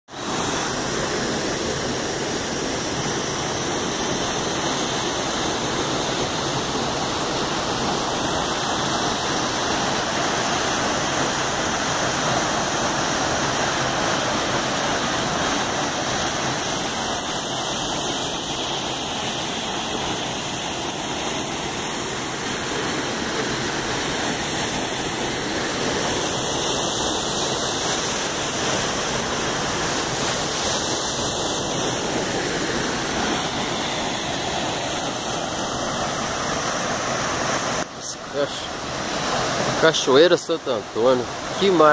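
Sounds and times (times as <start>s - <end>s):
waterfall rushing: 0.1s - 41.9s.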